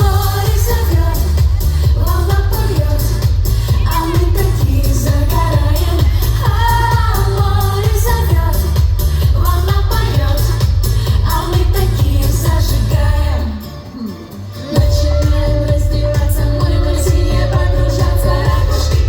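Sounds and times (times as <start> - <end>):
dance beat with heavy bass: 0.0 - 13.4, 14.8 - 19.0
women singing: 0.0 - 19.0.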